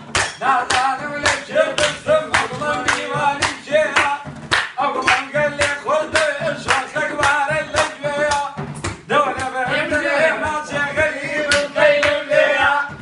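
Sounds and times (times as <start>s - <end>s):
man singing: 0.4s - 13.0s.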